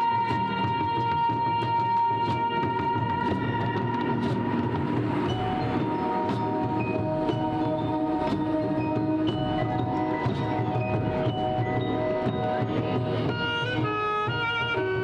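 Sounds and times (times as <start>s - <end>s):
mallet percussion notes: 0.0s - 15.0s
marching band chords: 0.0s - 15.0s.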